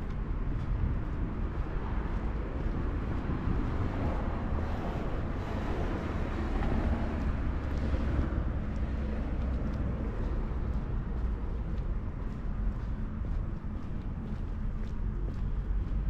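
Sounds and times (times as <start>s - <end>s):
street rumble with hiss: 0.0s - 16.0s.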